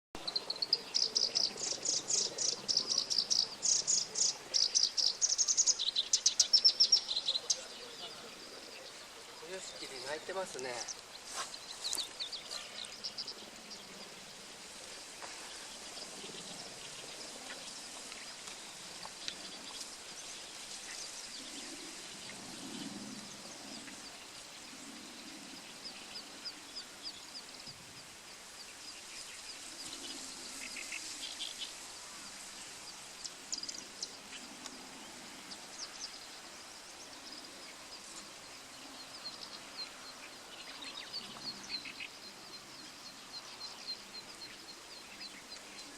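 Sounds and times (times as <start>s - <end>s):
steady outdoor hiss: 0.2s - 45.9s
warbler singing: 0.2s - 45.9s.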